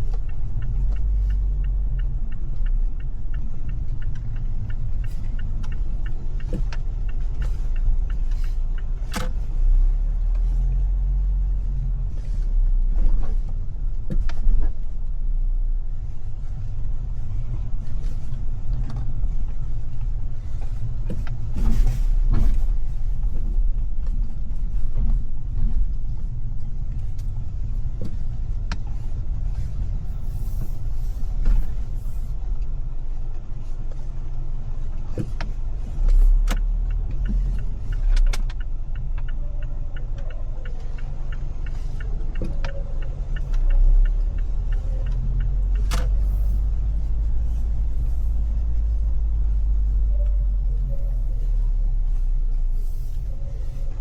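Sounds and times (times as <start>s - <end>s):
car engine and road noise rumble: 0.0s - 54.0s.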